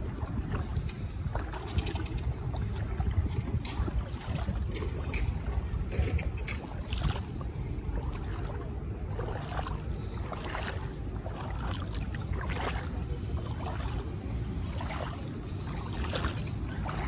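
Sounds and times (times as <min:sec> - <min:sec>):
water lapping and splashing: 0:00.0 - 0:17.0
wind rumble on microphone: 0:00.0 - 0:17.0.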